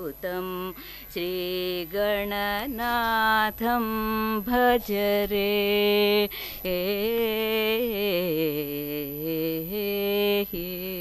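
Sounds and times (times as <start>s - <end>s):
woman singing prayer song: 0.0s - 11.0s.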